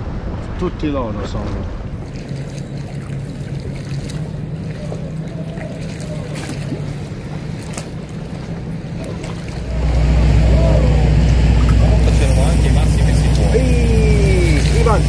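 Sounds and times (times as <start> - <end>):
boat engine humming: 1.7 - 15.0.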